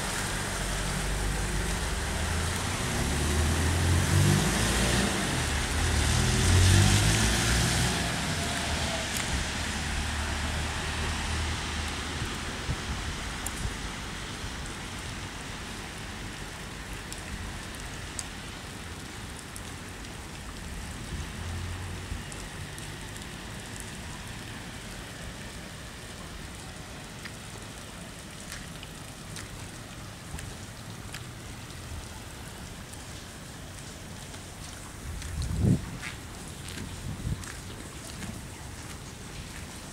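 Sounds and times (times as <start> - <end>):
rain falling onto water: 0.0 - 39.9.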